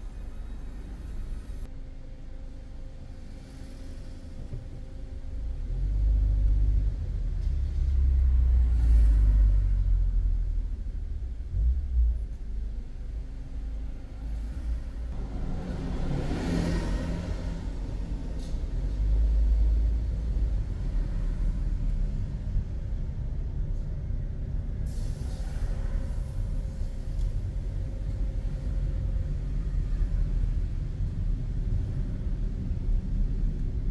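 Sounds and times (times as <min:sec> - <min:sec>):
passing traffic tyre noise: 0:00.0 - 0:01.7, 0:03.0 - 0:33.9
car engine and road rumble: 0:00.0 - 0:33.9.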